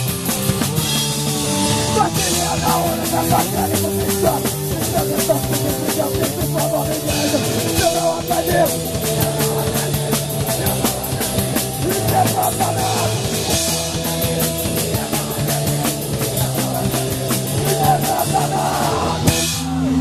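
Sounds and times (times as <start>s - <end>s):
distorted electric guitars: 0.0s - 20.0s
fast drum beat: 0.0s - 20.0s.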